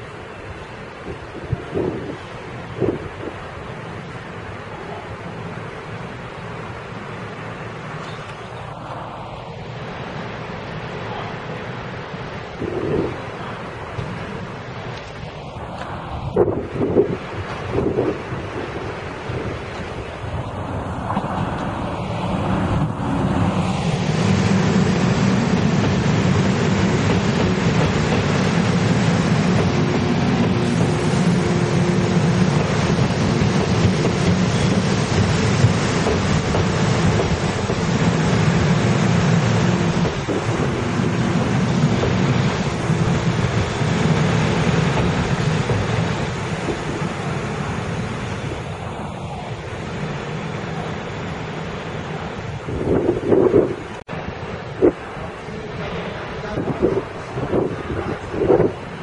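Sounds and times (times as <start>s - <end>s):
train wheels rumbling on rails: 10.9s - 54.1s, 54.7s - 59.0s.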